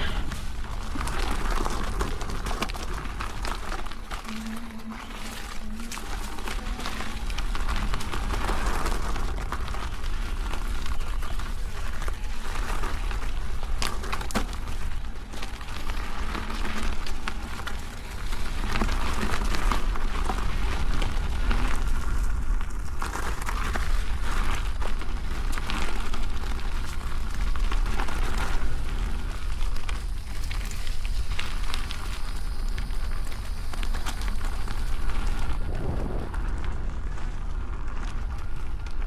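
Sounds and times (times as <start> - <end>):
tyre crackling on dirt: 0.0 - 39.0
wind on microphone: 0.0 - 39.0.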